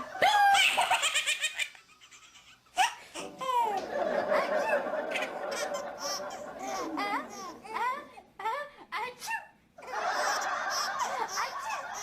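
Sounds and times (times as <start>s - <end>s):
baby laughing: 0.2s - 8.2s, 9.8s - 12.0s.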